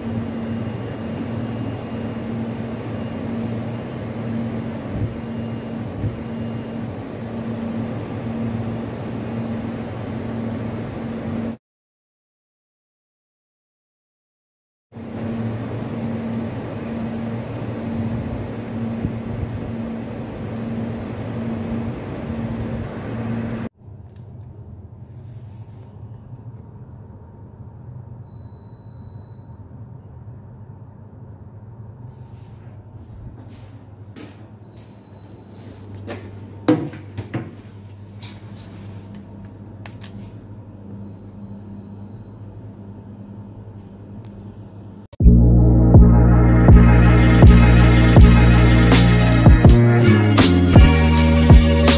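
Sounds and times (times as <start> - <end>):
outdoor unit fan and compressor: 0.0 - 11.6, 14.9 - 51.9
steady low hum: 0.0 - 11.6, 15.0 - 51.9.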